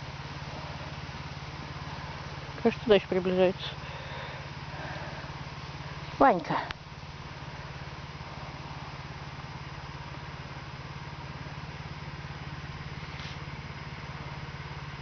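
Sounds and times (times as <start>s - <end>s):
motor idling: 0.0s - 15.0s.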